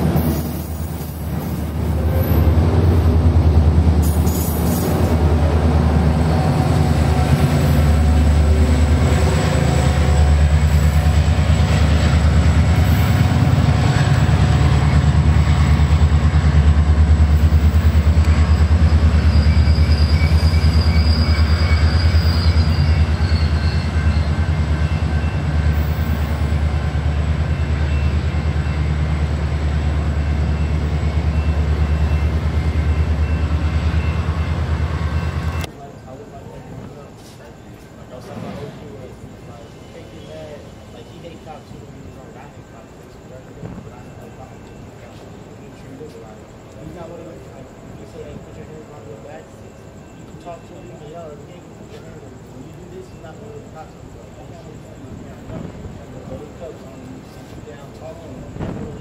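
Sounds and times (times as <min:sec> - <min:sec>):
passenger train rolling by: 0:00.0 - 0:59.0
faint high wheel squeal: 0:00.3 - 0:02.7, 0:12.6 - 0:59.0.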